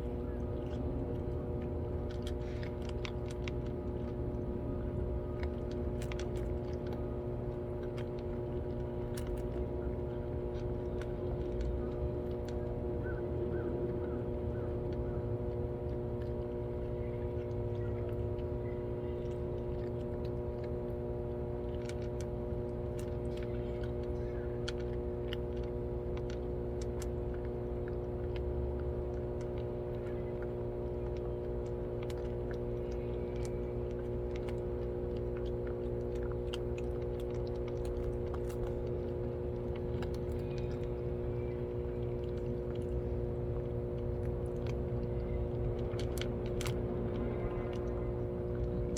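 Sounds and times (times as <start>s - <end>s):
mechanical hum: 0.0s - 48.9s.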